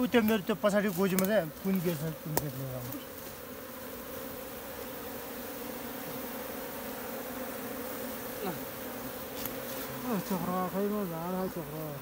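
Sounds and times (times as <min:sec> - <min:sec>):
bees buzzing: 0:00.0 - 0:12.0
buzz sliding down in pitch: 0:01.8 - 0:12.0.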